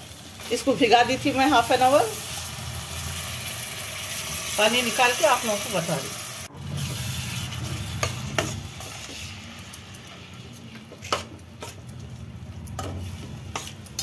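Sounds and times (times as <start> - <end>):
sizzling in a pot: 0.0 - 14.0.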